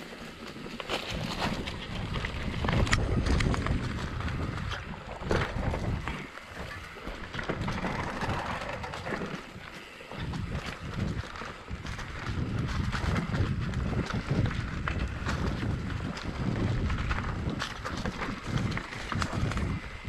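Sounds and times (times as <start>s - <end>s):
rumble: 0.0s - 20.0s
wind buffeting microphone: 0.0s - 20.0s.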